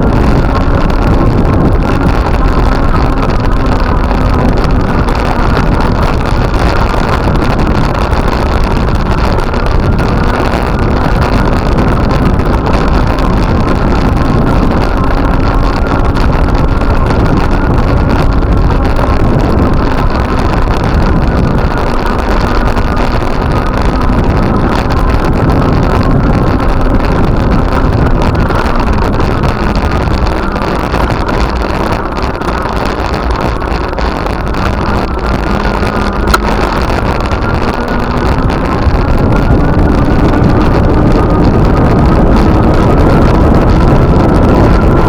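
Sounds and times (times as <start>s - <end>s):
motor engine running: 0.0s - 45.0s
wind buffeting microphone: 0.0s - 45.0s.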